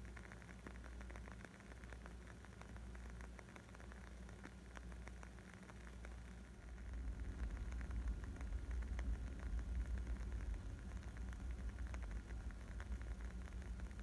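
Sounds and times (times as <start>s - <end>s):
low fire rumble: 0.0s - 14.0s
wood fire crackling: 0.2s - 14.0s.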